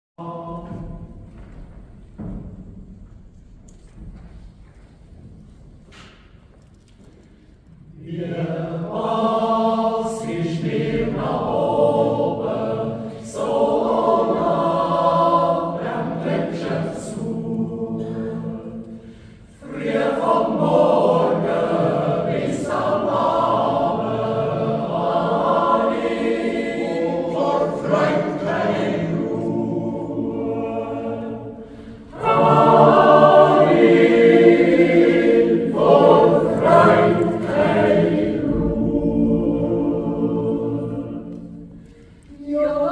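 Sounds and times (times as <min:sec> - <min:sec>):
yodel choir singing a cappella: 0:00.2 - 0:01.3, 0:07.8 - 0:42.9.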